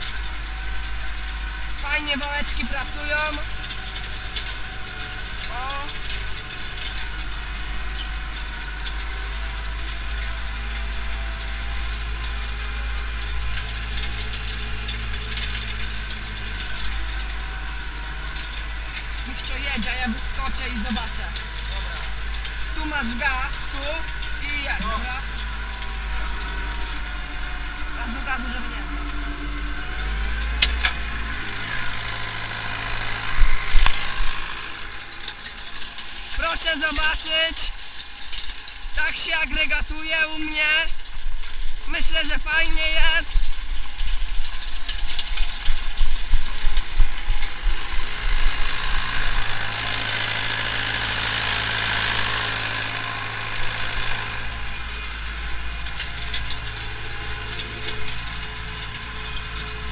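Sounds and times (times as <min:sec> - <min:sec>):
small irregular clicks and rattles: 0:00.0 - 0:59.9
tractor diesel engine under load: 0:00.0 - 0:59.9.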